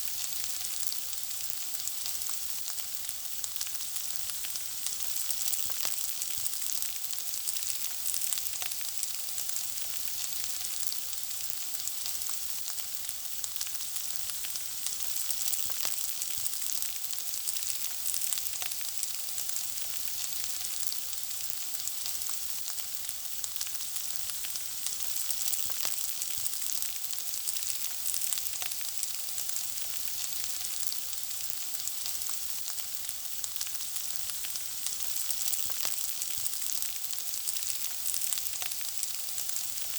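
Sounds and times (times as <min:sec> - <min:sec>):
food frying in hot oil: 0:00.0 - 0:39.9.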